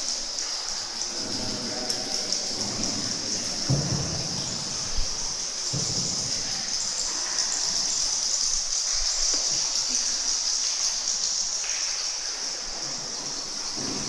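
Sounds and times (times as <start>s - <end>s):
high-pitched outdoor hiss: 0.0s - 14.0s.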